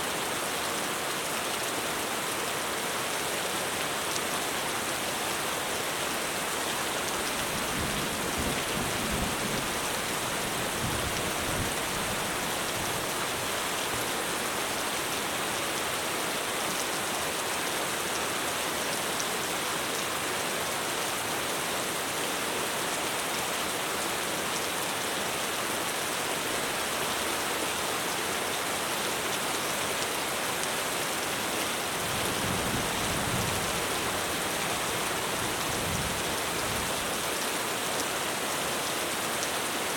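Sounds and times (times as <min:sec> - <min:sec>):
heavy rain on roof: 0:00.0 - 0:39.9.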